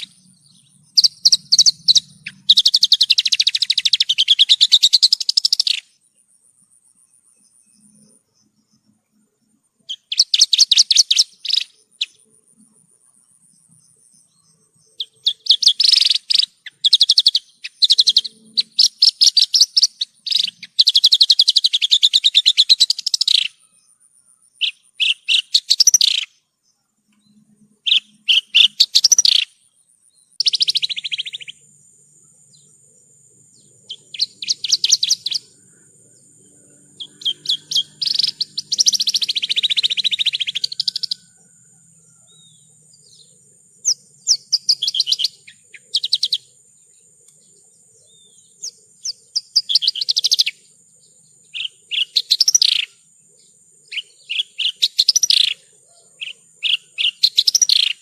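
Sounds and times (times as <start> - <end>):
bird singing high chattering notes: 0.0 - 6.0, 9.8 - 12.5, 13.5 - 26.4, 27.2 - 58.0.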